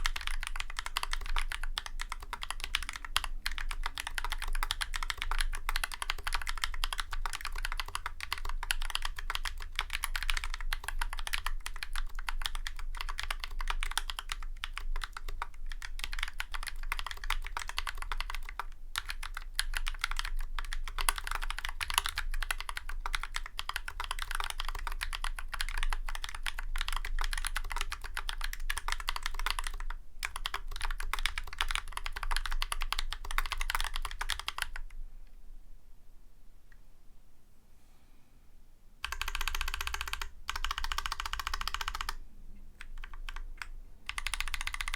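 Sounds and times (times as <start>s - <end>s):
fast typing on mechanical keyboard: 0.0s - 34.8s, 39.0s - 42.2s, 42.8s - 44.9s.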